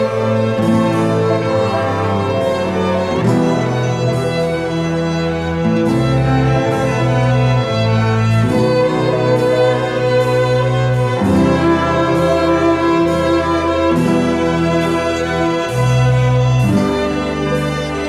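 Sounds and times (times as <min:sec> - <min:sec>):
orchestral music with bowed strings: 0:00.0 - 0:18.0.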